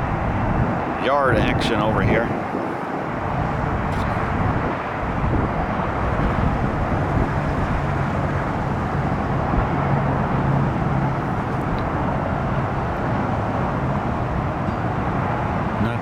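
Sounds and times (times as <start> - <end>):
low engine drone: 0.0 - 16.0
street traffic noise: 0.0 - 16.0.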